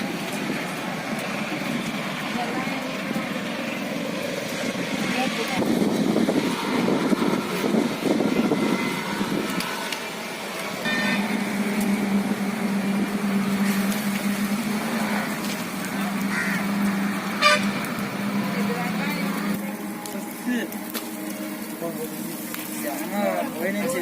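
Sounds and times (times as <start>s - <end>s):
low motor hum: 0.0s - 24.0s.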